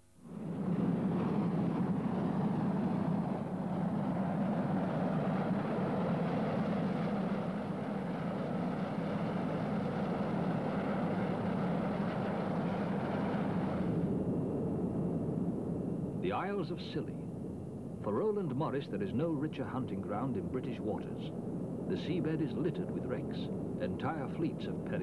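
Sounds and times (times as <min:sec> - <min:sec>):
helicopter engines and rotor running: 0:00.2 - 0:25.0.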